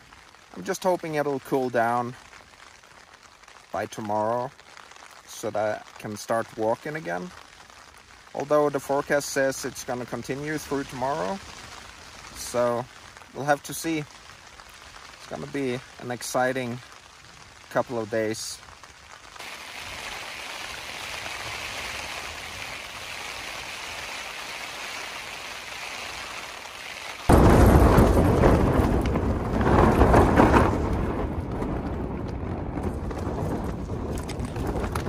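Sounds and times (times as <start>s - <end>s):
rain on tent fabric: 0.0s - 35.0s
storm wind gusting on tent: 0.0s - 35.0s.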